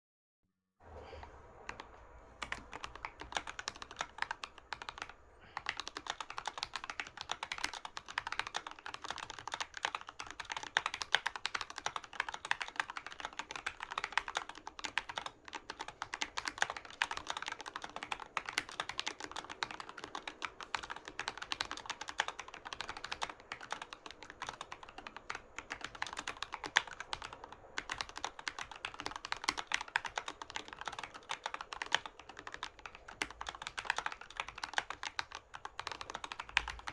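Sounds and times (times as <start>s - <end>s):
fast mechanical keyboard typing: 1.6s - 36.9s.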